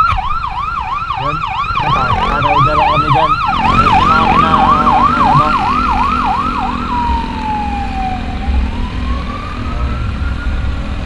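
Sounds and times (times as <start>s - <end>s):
emergency vehicle siren: 0.0s - 11.0s
traffic rumble: 0.0s - 11.0s.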